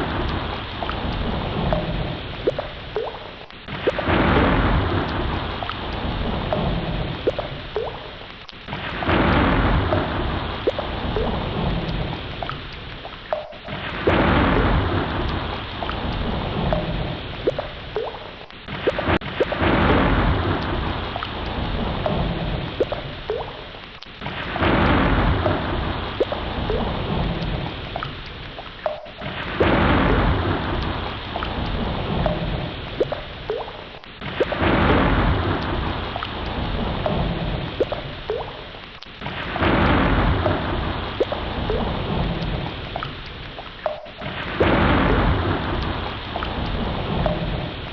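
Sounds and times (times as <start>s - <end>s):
bubbly blips: 0.0s - 47.7s
ocean waves surging: 3.6s - 7.8s, 8.7s - 12.4s, 13.3s - 17.5s, 18.6s - 23.2s, 24.2s - 28.0s, 28.8s - 43.0s, 43.8s - 47.9s.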